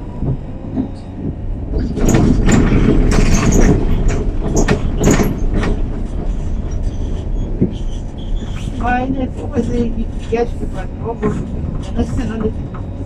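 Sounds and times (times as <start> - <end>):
tram running low rumble: 0.0 - 13.0
wheels clacking over rail junctions: 0.0 - 13.0.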